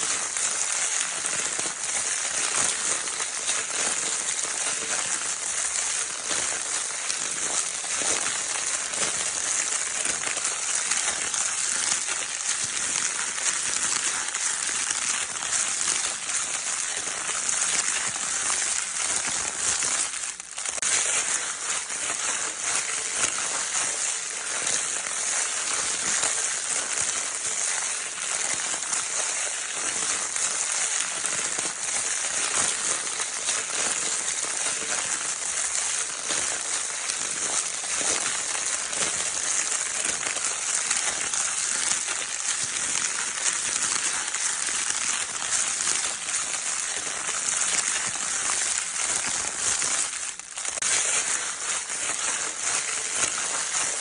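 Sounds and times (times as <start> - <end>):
crinkle paper crackling: 0.0 - 54.0.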